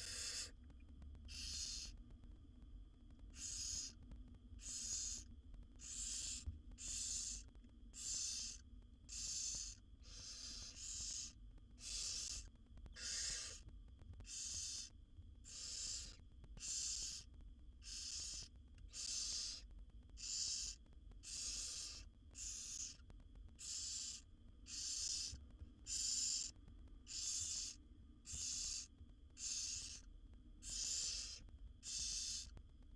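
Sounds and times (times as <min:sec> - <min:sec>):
owl chicks hissing begging calls: 0:00.0 - 0:00.6, 0:01.3 - 0:02.0, 0:03.3 - 0:04.0, 0:04.6 - 0:23.0, 0:23.6 - 0:32.6.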